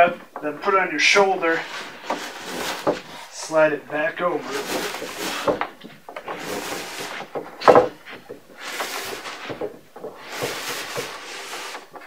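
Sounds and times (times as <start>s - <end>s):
bed frame scraping across carpet: 0.6s - 11.9s.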